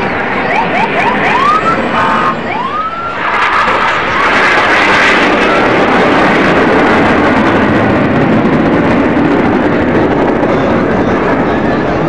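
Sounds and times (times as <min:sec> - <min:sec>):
jet roar overhead: 0:00.0 - 0:12.0.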